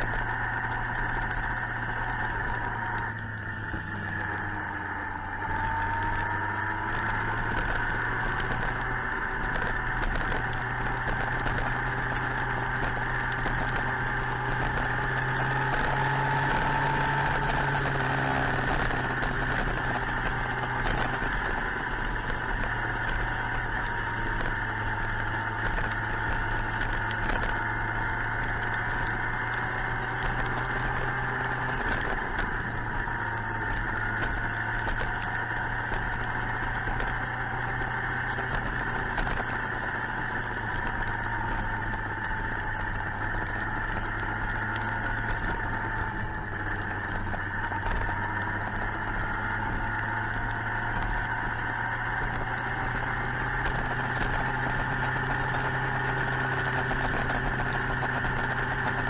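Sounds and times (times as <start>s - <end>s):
light crackling: 0.0s - 59.0s
motorcycle engine cruising: 0.0s - 59.0s.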